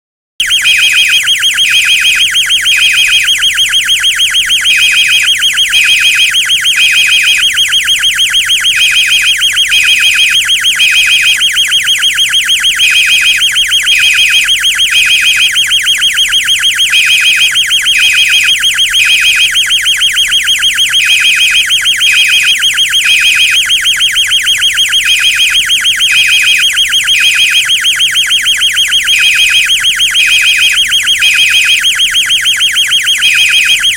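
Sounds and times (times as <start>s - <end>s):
fire alarm beeps: 0.4s - 33.9s
pulsing high-pitched alarm tone: 0.4s - 33.9s.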